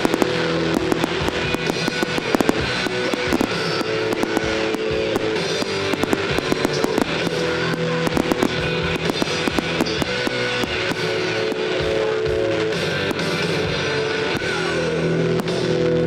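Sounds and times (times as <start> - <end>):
fireworks popping and crackling: 0.0 - 16.0
loud music with guitar chords: 0.0 - 16.0.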